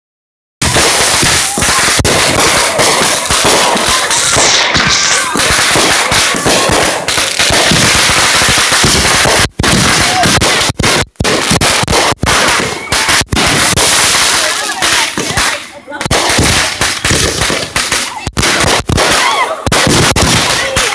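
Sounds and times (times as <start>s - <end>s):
fireworks bangs and crackles: 0.6s - 20.9s.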